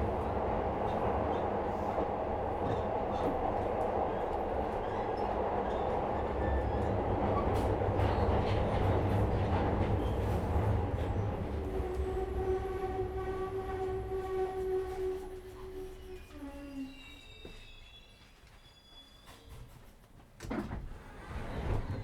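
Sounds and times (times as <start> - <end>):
train wheels rumbling in tunnel: 0.0 - 22.0.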